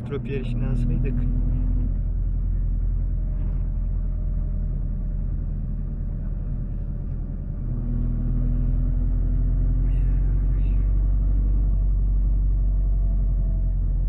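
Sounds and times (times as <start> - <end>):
road rumble inside cabin: 0.0 - 14.0
vehicle engine hum: 0.0 - 14.0.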